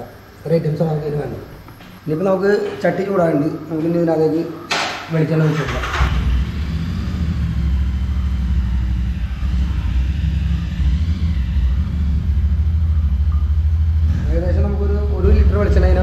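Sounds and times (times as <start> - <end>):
gas burner rumbling: 2.5 - 16.0.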